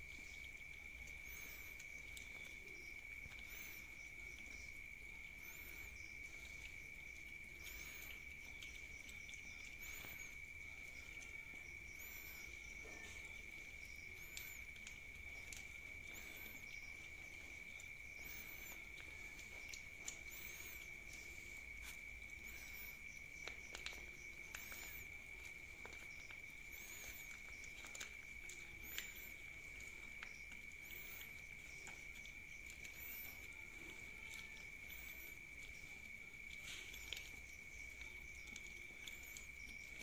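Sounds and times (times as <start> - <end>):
cats licking and chewing: 0.0 - 40.0
high-pitched insect trill: 0.0 - 40.0.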